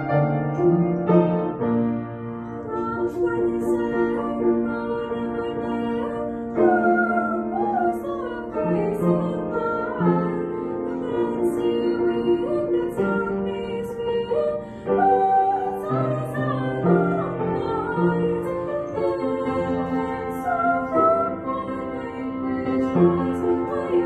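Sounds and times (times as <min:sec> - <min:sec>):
piano accompaniment: 0:00.0 - 0:24.0
girl singing art song: 0:02.5 - 0:24.0.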